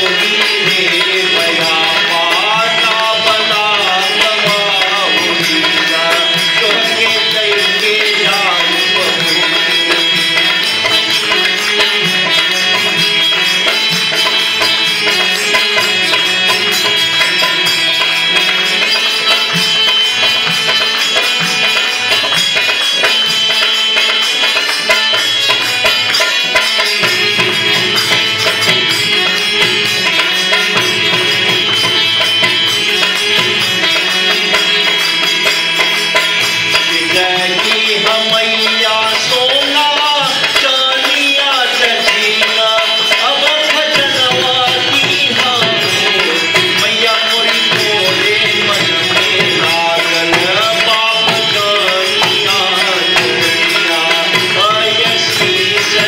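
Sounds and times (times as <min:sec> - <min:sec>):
person singing: 0:00.0 - 0:19.9, 0:26.6 - 0:56.0
hand drum: 0:00.0 - 0:56.0
jingling percussion: 0:00.0 - 0:56.0
steady held tones: 0:00.0 - 0:56.0.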